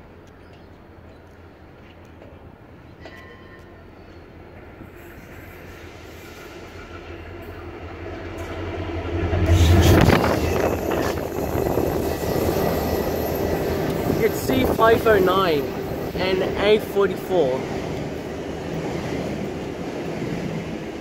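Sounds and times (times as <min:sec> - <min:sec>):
train passing rumble: 0:00.1 - 0:21.0.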